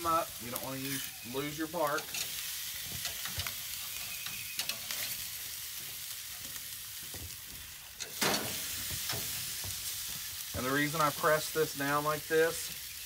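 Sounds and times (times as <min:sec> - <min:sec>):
steaks sizzling on grill: 0:00.0 - 0:13.0
tongs scraping grill grates: 0:00.0 - 0:13.0.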